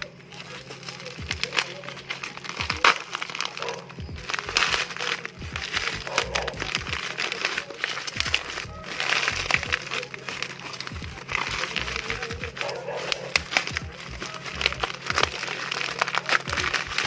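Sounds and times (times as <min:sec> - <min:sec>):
background music: 0:00.0 - 0:17.0
bubble wrap crinkling: 0:00.0 - 0:17.0.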